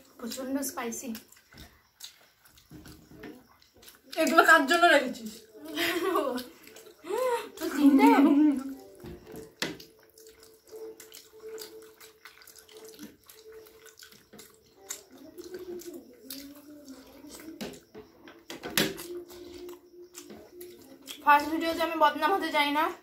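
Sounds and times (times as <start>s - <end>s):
smacking and chewing: 0.0s - 21.7s.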